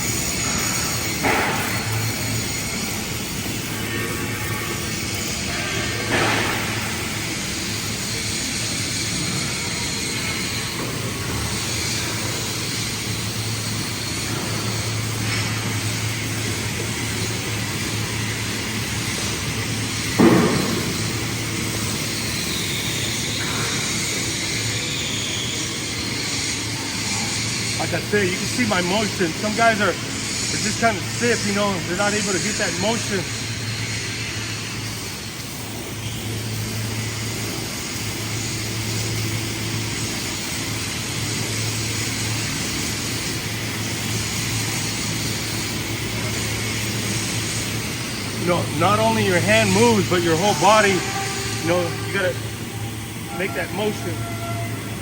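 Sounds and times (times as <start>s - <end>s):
machine hum: 0.0s - 55.0s
paint spray gun hissing: 0.0s - 55.0s.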